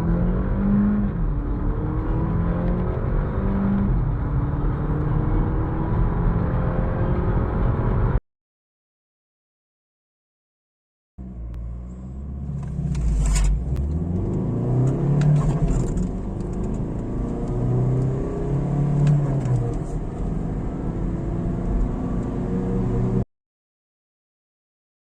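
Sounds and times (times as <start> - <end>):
car engine accelerating hard: 0.0 - 8.2, 11.2 - 23.2.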